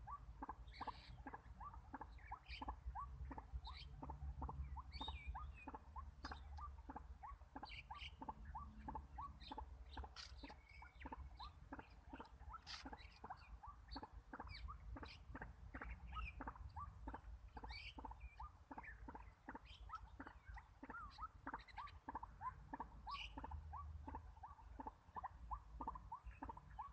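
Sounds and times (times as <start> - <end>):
higher bird chirps: 0.0 - 26.9.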